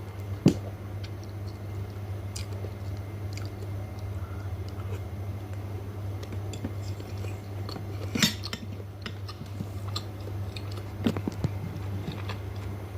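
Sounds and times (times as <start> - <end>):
steady low hum: 0.0 - 12.9
chewing: 1.0 - 5.6, 6.2 - 12.8.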